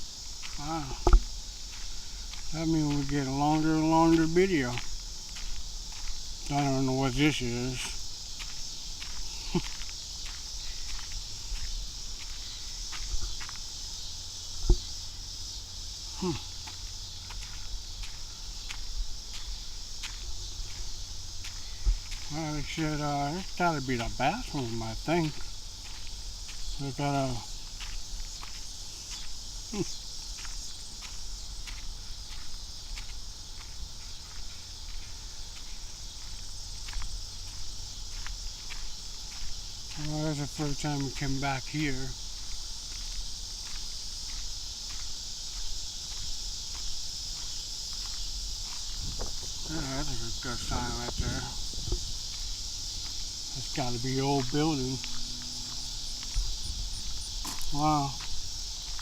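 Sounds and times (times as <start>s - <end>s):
footsteps walking: 0.0s - 59.0s
high insect chorus: 0.0s - 59.0s.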